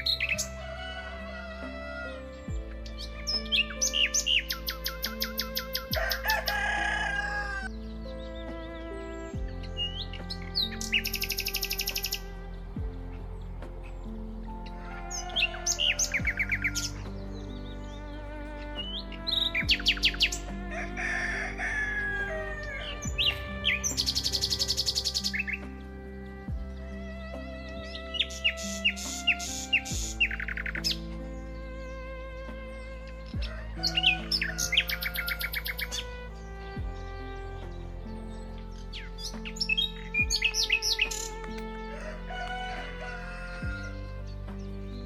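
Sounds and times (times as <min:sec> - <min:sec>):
birds chirping: 0:00.0 - 0:45.0
soft background music: 0:00.0 - 0:45.0.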